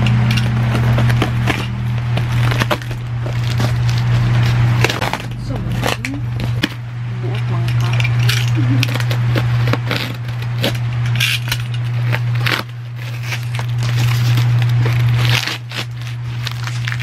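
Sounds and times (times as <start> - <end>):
box cutter cutting cardboard box: 0.0 - 6.7, 8.8 - 10.8, 12.0 - 17.0
steady low hum: 0.0 - 17.0
tape and cardboard crackling: 0.0 - 17.0.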